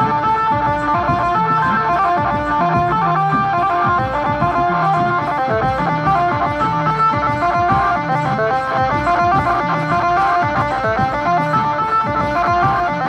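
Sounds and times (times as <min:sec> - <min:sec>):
plucked string melody: 0:00.0 - 0:13.0
steady drum beats: 0:00.0 - 0:13.0.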